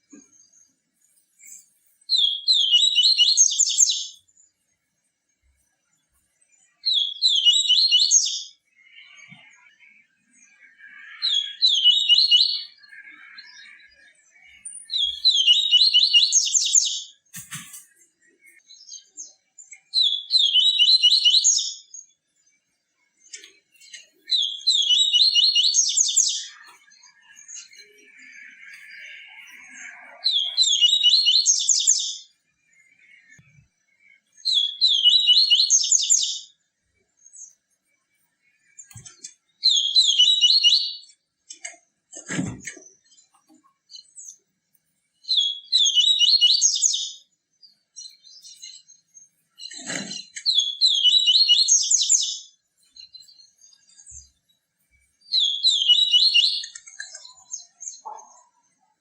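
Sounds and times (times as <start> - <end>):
bird singing high fast phrases: 2.1 - 4.6, 6.5 - 17.3, 18.1 - 37.8, 38.4 - 41.3, 45.1 - 54.5, 55.2 - 58.9.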